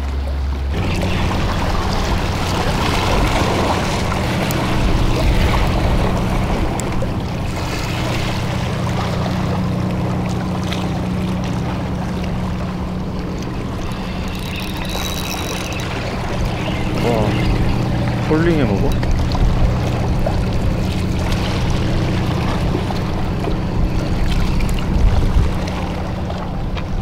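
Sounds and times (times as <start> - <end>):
low engine hum: 0.0 - 27.0
sea water washing against rocks: 0.6 - 27.0.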